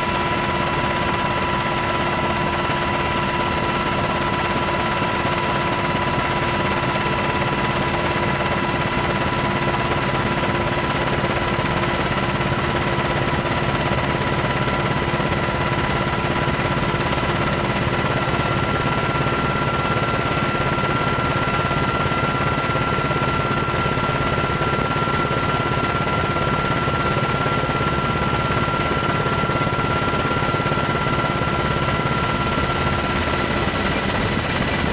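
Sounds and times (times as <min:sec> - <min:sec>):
helicopter engine and rotor: 0:00.0 - 0:34.9.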